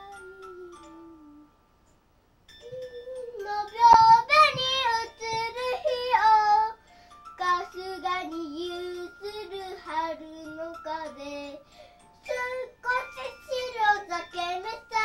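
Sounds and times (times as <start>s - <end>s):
girl singing: 0.0s - 1.6s, 2.6s - 6.8s, 7.4s - 15.0s.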